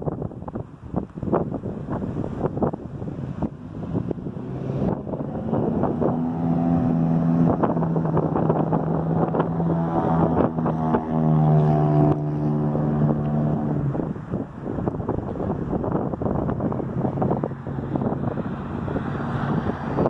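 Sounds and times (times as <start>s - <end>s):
wind buffeting microphone: 0.0s - 20.0s
engine droning: 0.7s - 20.0s.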